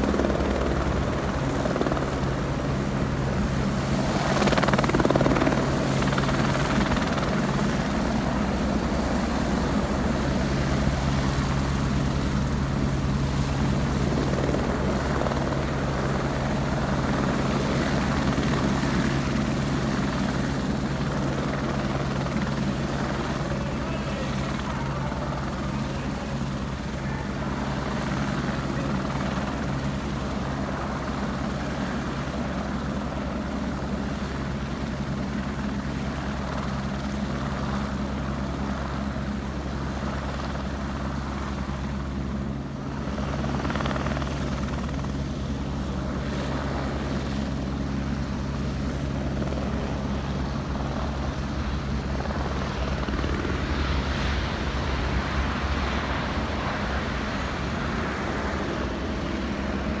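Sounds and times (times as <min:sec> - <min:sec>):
helicopter hovering: 0:00.0 - 1:00.0.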